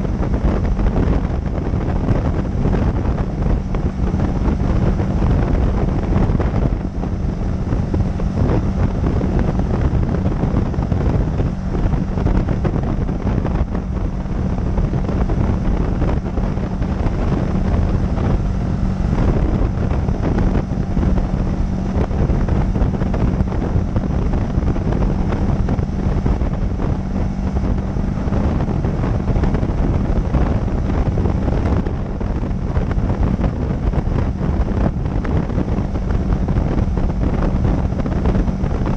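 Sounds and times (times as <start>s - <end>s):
motorcycle engine drone: 0.0s - 38.9s
wind rushing over microphone: 0.0s - 38.9s.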